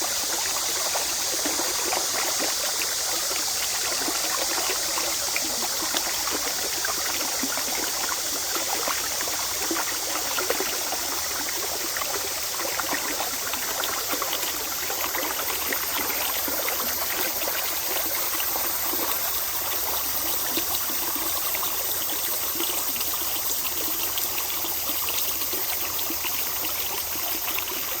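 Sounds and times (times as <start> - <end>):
stream flowing over rocks: 0.0 - 28.0.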